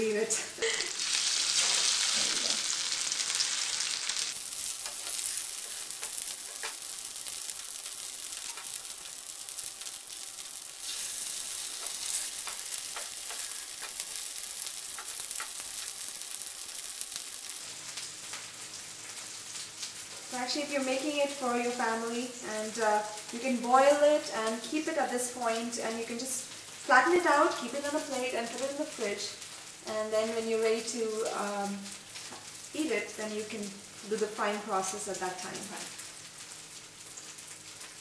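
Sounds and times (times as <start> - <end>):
oil sizzling in skillet: 0.0 - 38.0.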